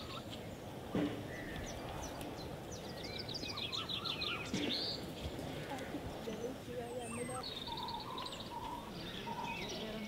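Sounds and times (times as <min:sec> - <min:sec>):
birds chirping: 0:00.0 - 0:10.0
outdoor background hiss: 0:00.0 - 0:10.0.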